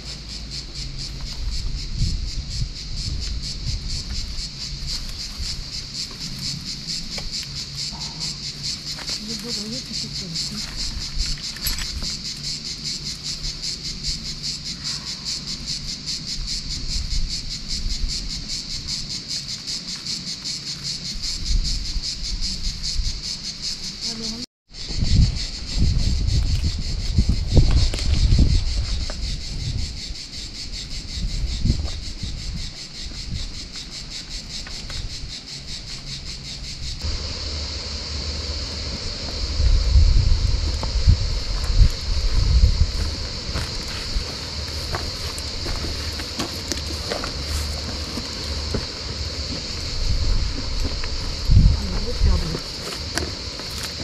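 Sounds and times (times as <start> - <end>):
wind rumbling on microphone: 0.0 - 19.2, 21.0 - 54.0
cicadas buzzing: 0.0 - 54.0.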